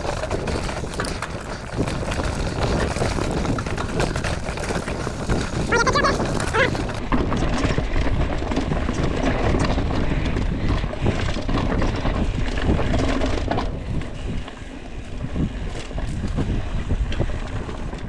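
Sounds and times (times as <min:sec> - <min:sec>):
bike rattling over rocks: 0:00.0 - 0:18.0.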